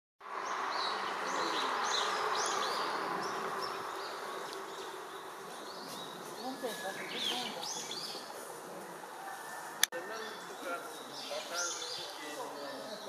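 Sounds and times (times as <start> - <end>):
small birds chirping: 0.3 - 8.9, 10.0 - 13.0.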